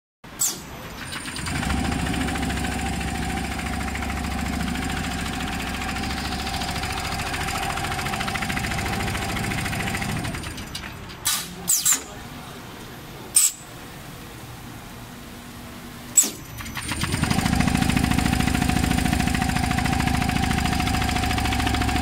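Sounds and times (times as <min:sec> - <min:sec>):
sharp machine clicks: 0:00.4 - 0:12.1, 0:13.4 - 0:13.6, 0:16.2 - 0:22.0
quilting machine clatter and whine: 0:00.6 - 0:13.3, 0:14.0 - 0:22.0.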